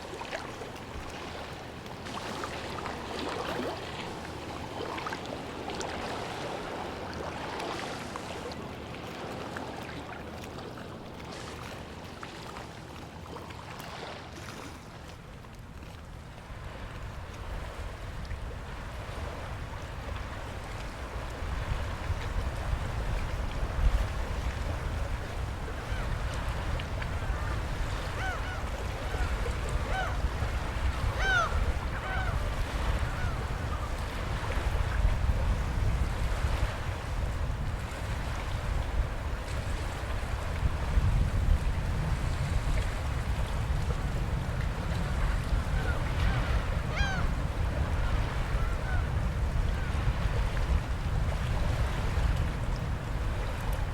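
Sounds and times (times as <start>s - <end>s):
low rumble of wind: 0.0s - 53.9s
sea water sloshing and lapping: 0.0s - 53.9s.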